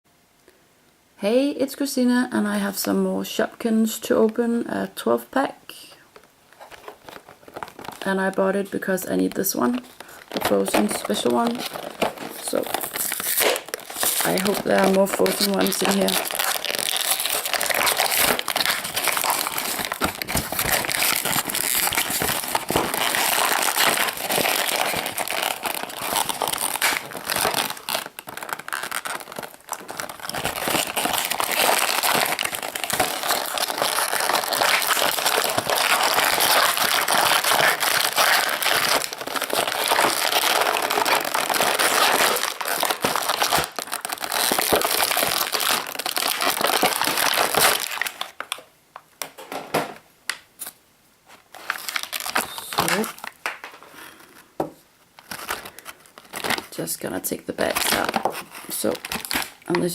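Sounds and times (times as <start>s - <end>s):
plastic packaging crinkling: 6.2s - 49.6s, 50.3s - 59.9s.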